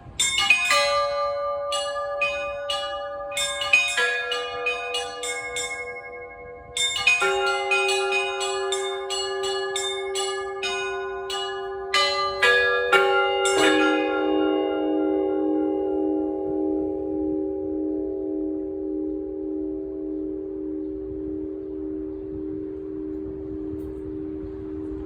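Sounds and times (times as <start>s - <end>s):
lower bells ringing: 0.0s - 25.0s
small high bells ringing: 0.0s - 25.0s.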